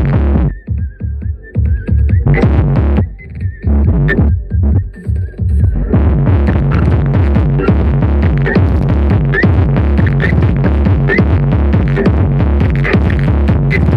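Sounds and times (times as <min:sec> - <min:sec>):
loud electronic dance music: 0:00.0 - 0:13.9.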